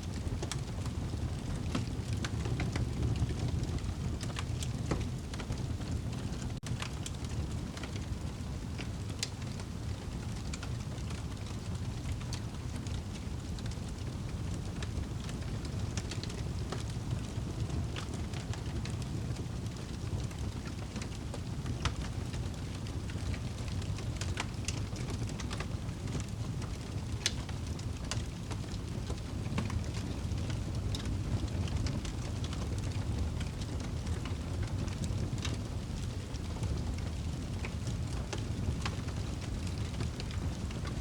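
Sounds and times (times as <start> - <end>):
low rumble of flames: 0.0 - 41.0
burning wood crackling and popping: 0.1 - 41.0.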